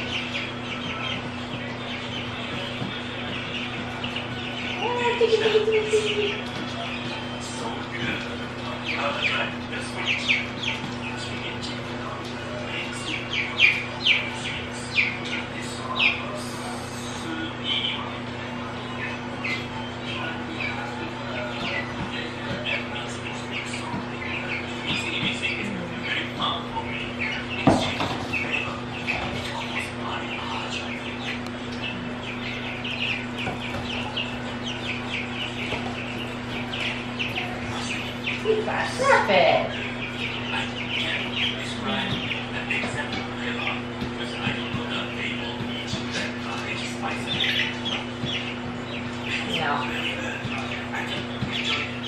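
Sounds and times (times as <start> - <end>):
chicks peeping: 0.0 - 52.0
steady low hum: 0.0 - 52.0.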